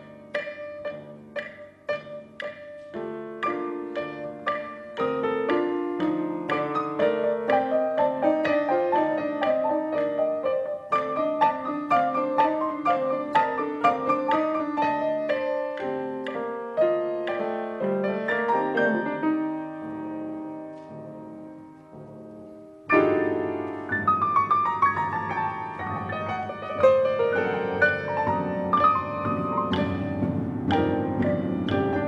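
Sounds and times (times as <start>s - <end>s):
pianos playing together: 0.0s - 32.0s.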